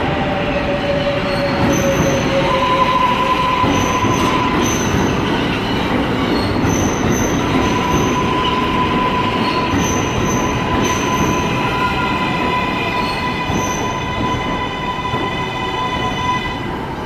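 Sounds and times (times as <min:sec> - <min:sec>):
subway train rumble: 0:00.0 - 0:17.0
high-pitched wheel squeal: 0:00.6 - 0:05.0, 0:05.7 - 0:16.6.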